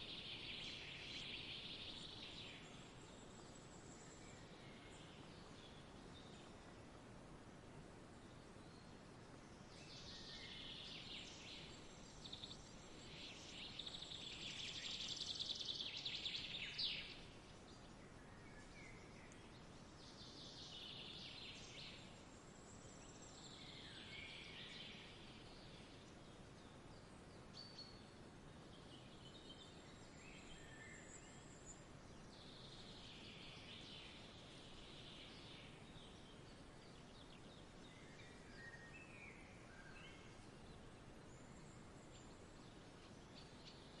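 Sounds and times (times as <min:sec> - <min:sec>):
low background hiss: 0:00.0 - 0:44.0.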